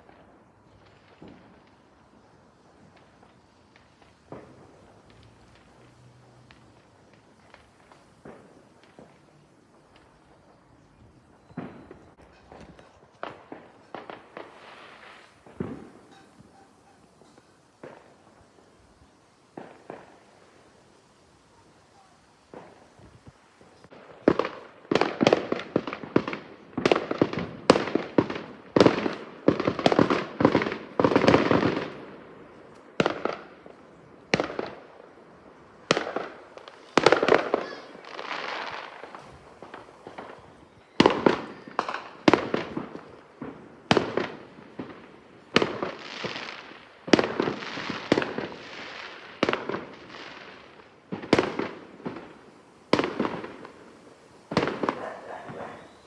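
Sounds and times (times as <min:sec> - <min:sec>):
fireworks banging: 0:00.0 - 0:56.0
fireworks hissing: 0:00.0 - 0:56.0.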